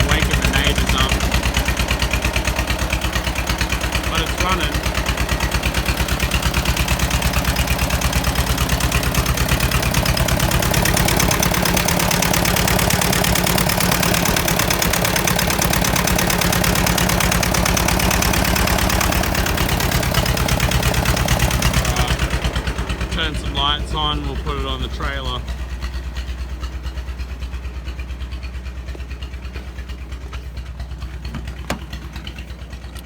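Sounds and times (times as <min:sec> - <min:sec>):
tractor engine chugging: 0:00.0 - 0:33.0.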